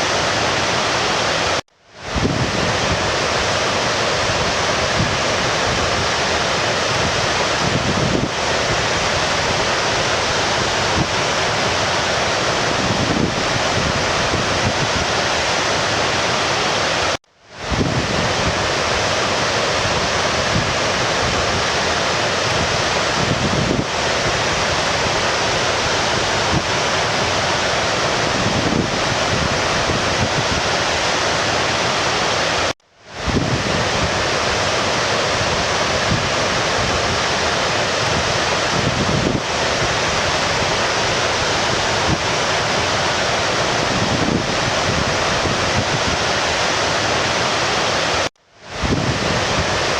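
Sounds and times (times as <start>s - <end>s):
stream water rushing: 0.0s - 49.9s.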